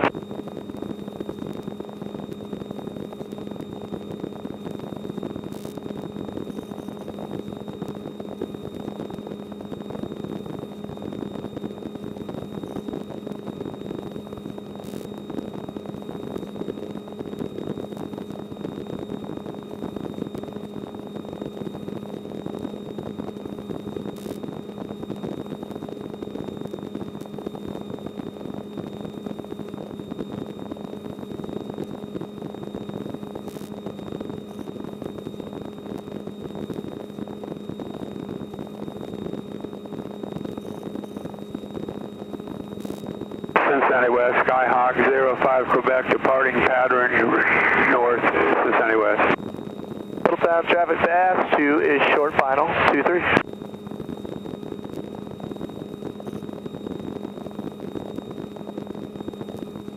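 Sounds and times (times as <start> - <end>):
helicopter engine and rotor hum: 0.0 - 56.3, 57.2 - 59.9
high steady whine: 0.0 - 59.9.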